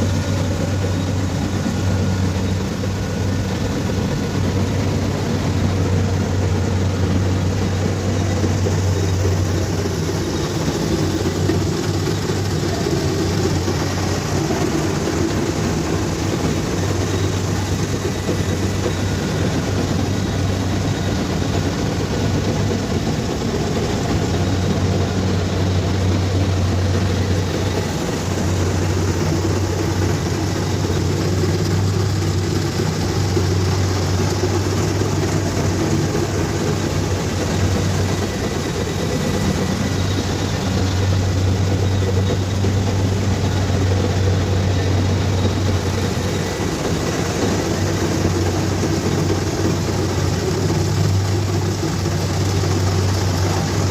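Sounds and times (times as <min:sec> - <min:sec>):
combine harvester diesel engine: 0:00.0 - 0:53.9
machinery mechanical noise: 0:00.0 - 0:53.9.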